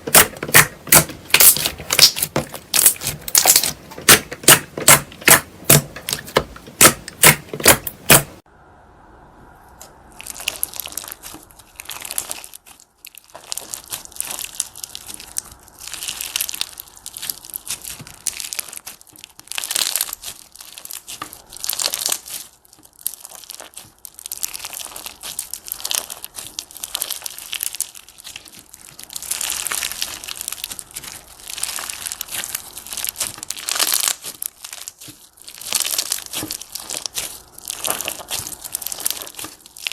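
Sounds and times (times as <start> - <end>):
slime crackling by hand: 0.0 - 8.4, 9.7 - 39.9.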